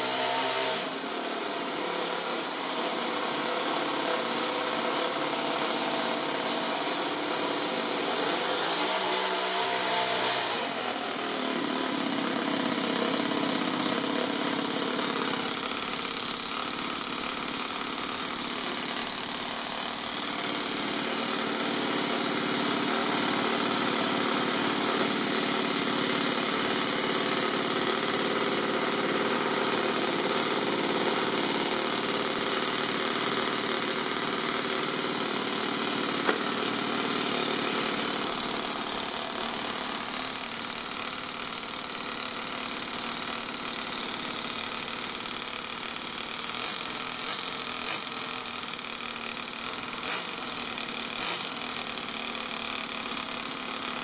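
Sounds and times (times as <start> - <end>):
model engine running: 0.0 - 54.0.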